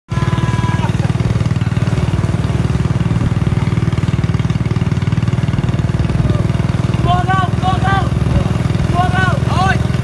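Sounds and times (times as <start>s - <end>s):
small motorbike engine running: 0.1s - 10.0s.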